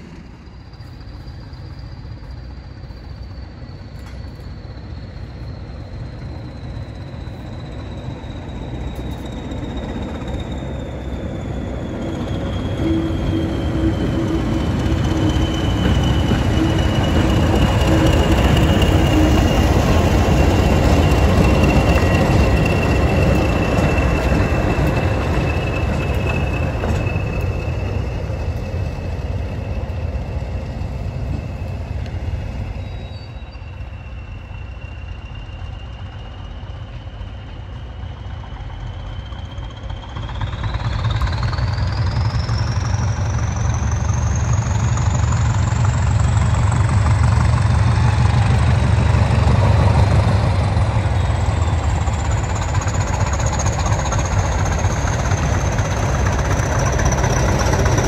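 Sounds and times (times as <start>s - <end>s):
diesel locomotive engines rumbling: 0.0s - 58.0s
turbocharger whistle: 2.8s - 58.0s.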